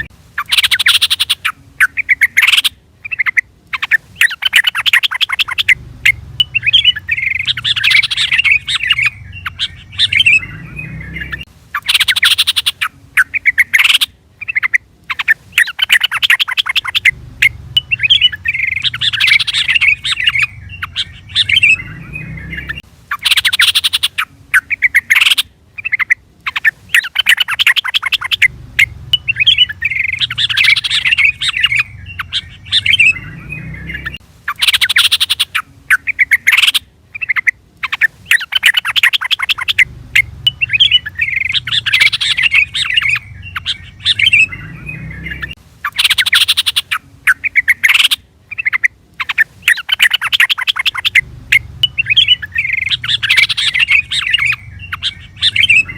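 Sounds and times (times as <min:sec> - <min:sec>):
bulbul calling: 0:00.0 - 0:55.9.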